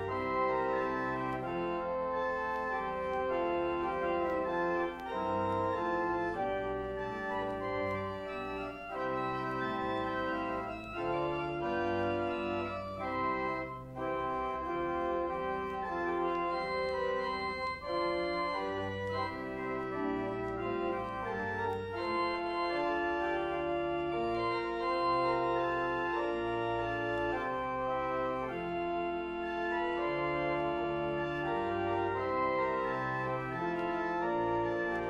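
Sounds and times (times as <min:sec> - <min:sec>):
church organ playing chords: 0:00.0 - 0:35.0.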